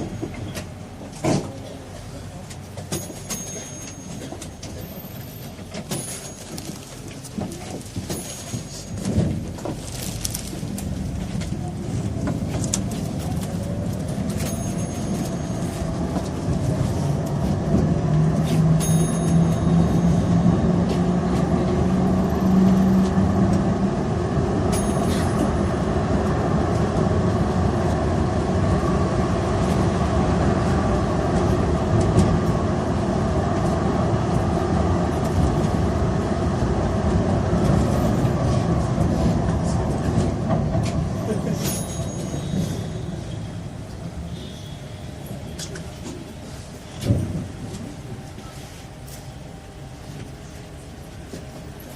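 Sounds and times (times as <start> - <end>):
tram wheels rumbling on track: 0.0 - 51.9.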